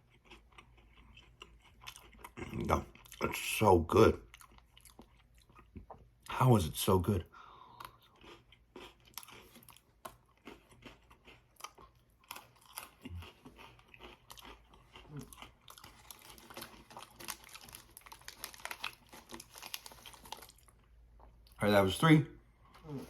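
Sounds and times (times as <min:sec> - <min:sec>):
chewing crunchy biscuit sticks: 0:00.0 - 0:06.4, 0:07.6 - 0:21.6.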